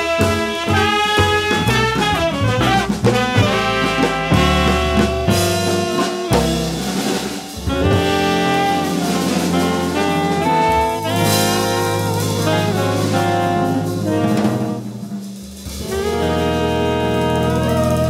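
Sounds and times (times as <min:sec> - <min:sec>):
drum kit with sticks: 0:00.0 - 0:18.0
guitar: 0:00.0 - 0:18.0
saxophones and trombone: 0:00.0 - 0:18.0
upright double bass: 0:00.0 - 0:18.0.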